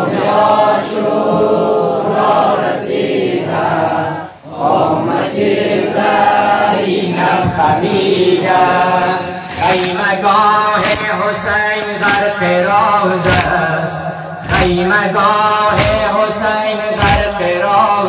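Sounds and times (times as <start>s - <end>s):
group chanting in unison: 0.0s - 18.0s.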